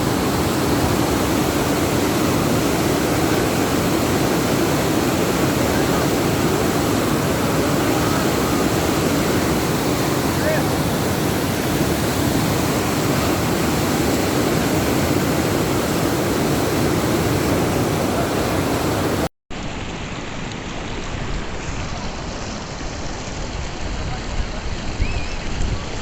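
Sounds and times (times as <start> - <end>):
stream water rushing: 0.0 - 25.4.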